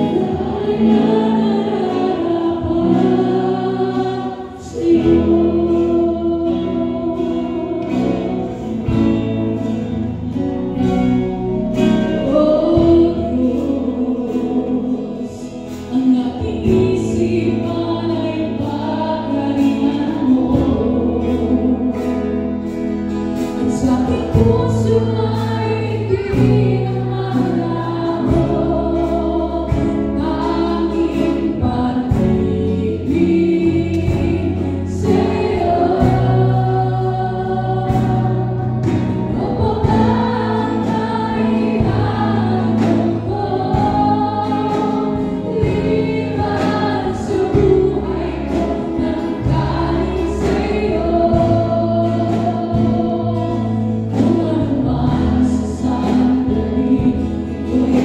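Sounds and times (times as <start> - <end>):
people singing: 0.0 - 58.0
worship band playing: 0.0 - 58.0.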